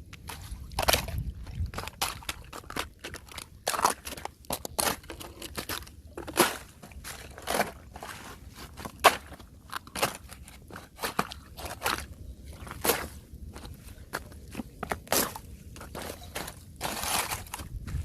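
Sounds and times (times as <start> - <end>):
thin ice crunching and cracking: 0.2 - 18.0.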